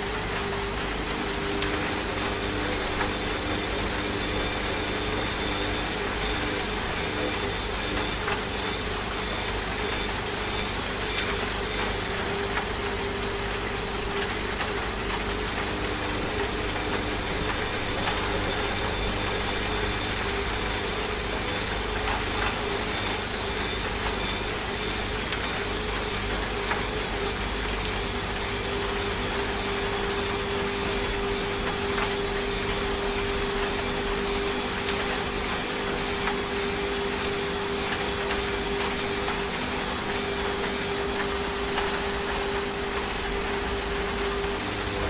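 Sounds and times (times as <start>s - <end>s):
rain falling: 0.0s - 45.0s
washing machine running: 0.0s - 45.0s.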